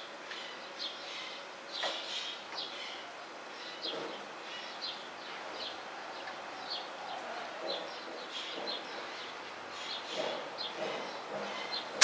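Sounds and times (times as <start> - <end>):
small birds chirping: 0.0 - 12.0
steady outdoor hiss: 0.0 - 12.0.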